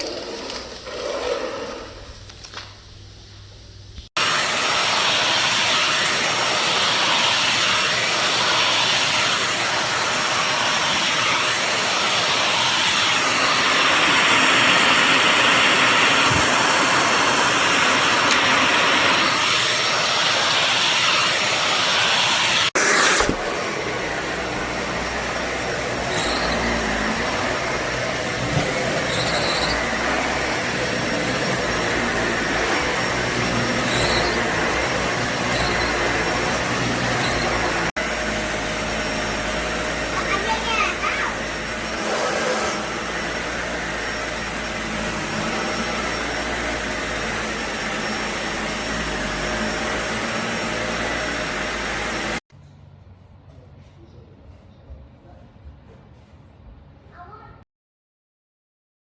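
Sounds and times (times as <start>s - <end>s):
vacuum cleaner running: 4.1s - 52.5s.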